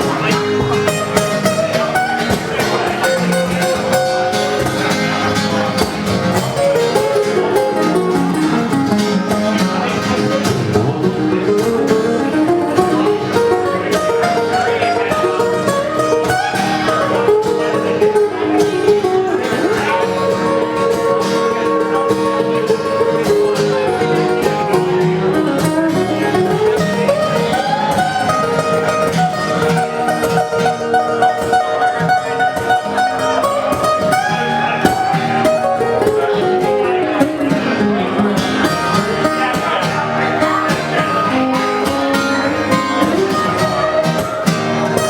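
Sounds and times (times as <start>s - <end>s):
acoustic guitars picked and strummed: 0.0s - 45.0s
sliding melodic lead line: 0.0s - 45.0s.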